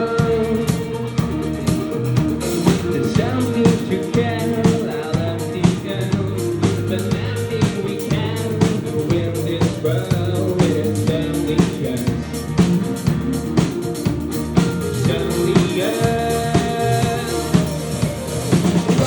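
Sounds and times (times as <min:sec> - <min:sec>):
drum kit beat: 0:00.0 - 0:19.0
electric guitar and bass: 0:00.0 - 0:19.0
person singing: 0:00.0 - 0:19.0.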